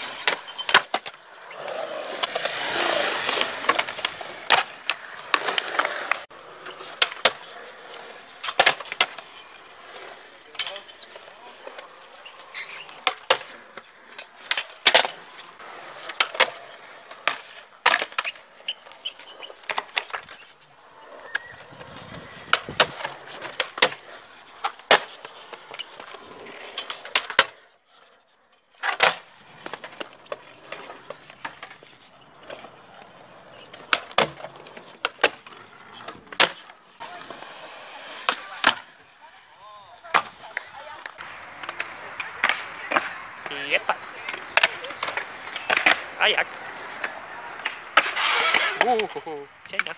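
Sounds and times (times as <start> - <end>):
skateboard clacks: 0.0 - 27.7, 28.8 - 39.2, 40.0 - 49.9
skateboard wheels rolling on concrete: 0.0 - 49.9.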